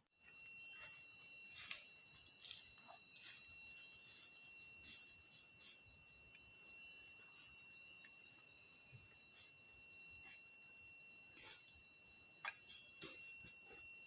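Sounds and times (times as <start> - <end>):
insects droning chorus: 0.0 - 14.0.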